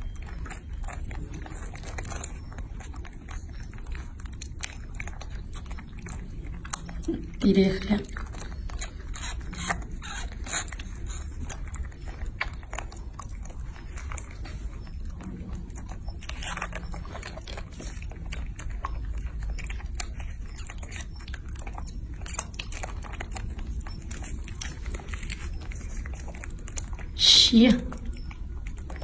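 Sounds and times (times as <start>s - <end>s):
monkeys sucking and smacking: 0.0s - 29.0s.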